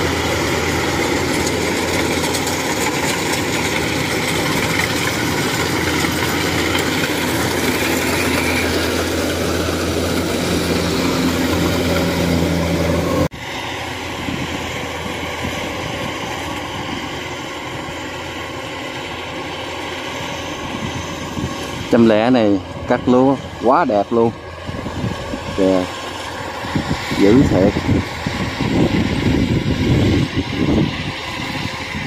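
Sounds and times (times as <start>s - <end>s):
combine harvester drone: 0.0s - 32.0s.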